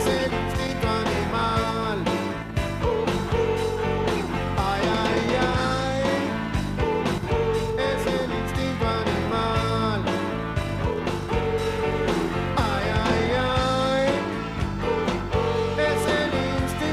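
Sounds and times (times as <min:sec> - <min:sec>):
rock song with male vocal: 0:00.0 - 0:16.9.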